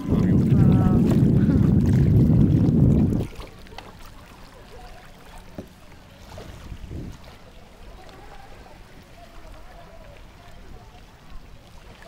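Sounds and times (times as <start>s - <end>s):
paddling splashes and trickling: 0.0s - 12.0s.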